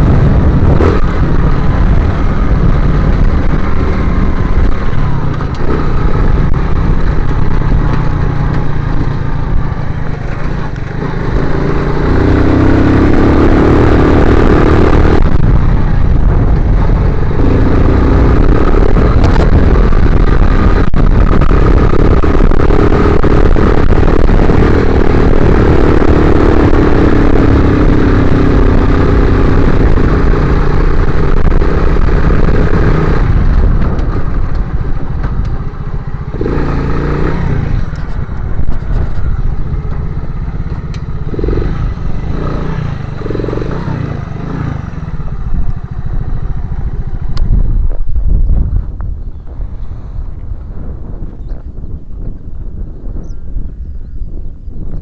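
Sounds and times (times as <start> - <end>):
motorcycle engine under load: 0.0 - 53.4.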